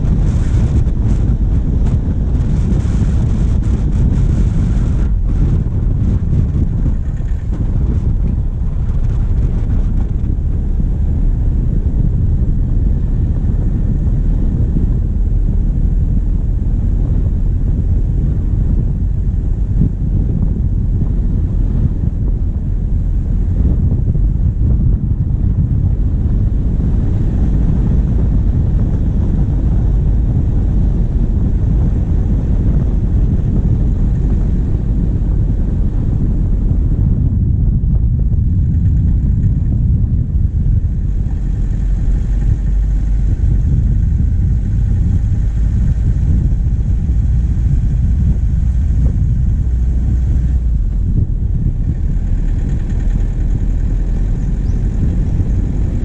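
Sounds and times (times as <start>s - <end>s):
diesel engine rumbling: 0.0s - 56.0s
wind buffeting microphone: 0.0s - 56.0s.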